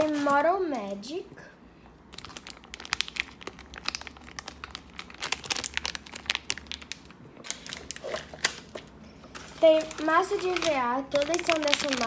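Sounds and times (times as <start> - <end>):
plastic packets crinkling: 0.0 - 1.0, 2.1 - 12.0.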